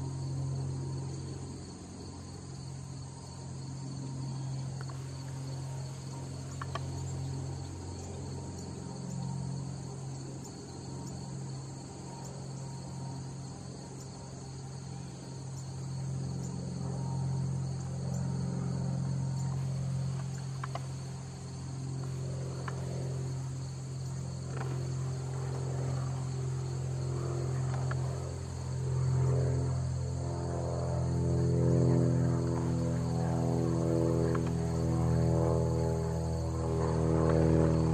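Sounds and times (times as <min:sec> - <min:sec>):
crickets trilling: 0:00.0 - 0:37.9
low drone: 0:00.0 - 0:37.9.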